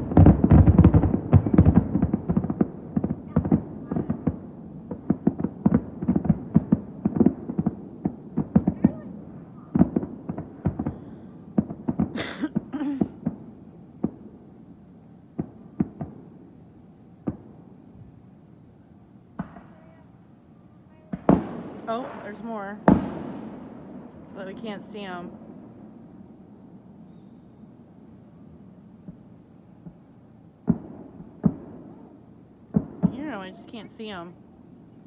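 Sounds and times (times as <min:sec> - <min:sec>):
fireworks bangs: 0:00.0 - 0:16.6, 0:17.2 - 0:18.2, 0:19.3 - 0:20.2, 0:20.9 - 0:27.7, 0:29.0 - 0:34.4.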